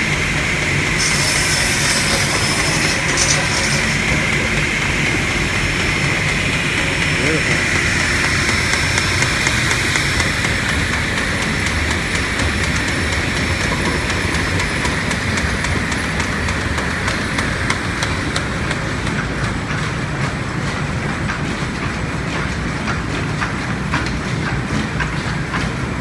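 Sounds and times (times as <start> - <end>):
machinery rumble: 0.0 - 26.0.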